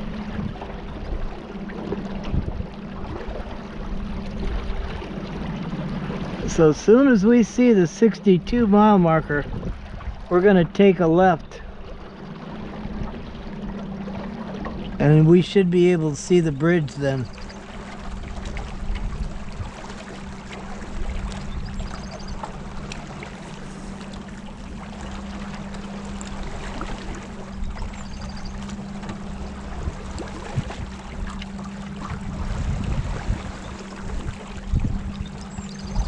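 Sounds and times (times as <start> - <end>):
motorboat engine running: 0.0 - 36.0
water rushing past hull: 0.0 - 36.0.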